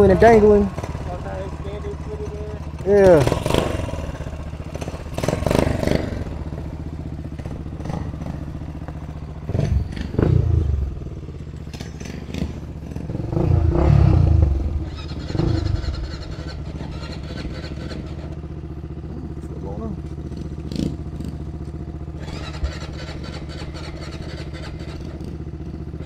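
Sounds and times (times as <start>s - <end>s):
quad engine idling and revving: 0.0s - 26.0s.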